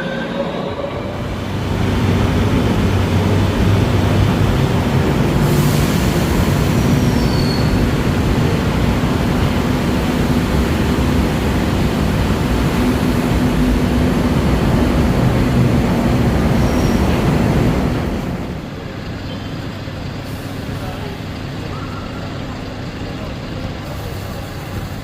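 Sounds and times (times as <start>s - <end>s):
train running on rails: 0.0s - 25.0s.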